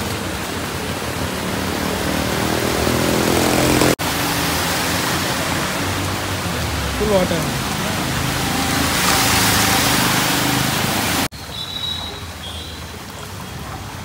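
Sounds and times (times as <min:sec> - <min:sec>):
heavy rain on street: 0:00.0 - 0:14.0.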